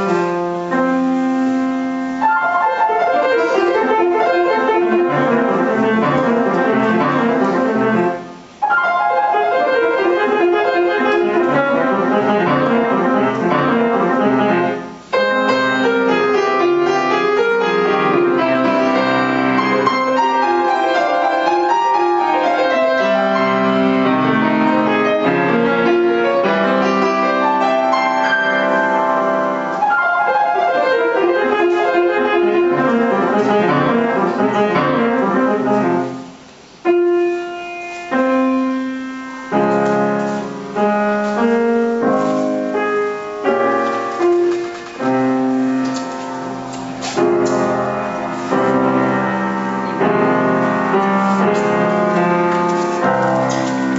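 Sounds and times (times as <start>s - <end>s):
grand piano playing: 0.0s - 53.9s.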